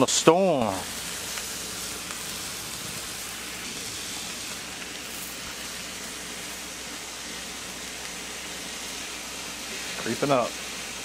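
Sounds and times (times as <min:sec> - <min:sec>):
pork chops sizzling on griddle: 0:00.0 - 0:11.0.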